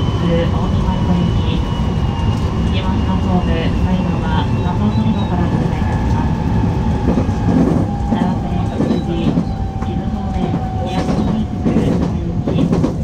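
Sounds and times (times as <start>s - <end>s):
train rumbling over points: 0.0s - 13.0s.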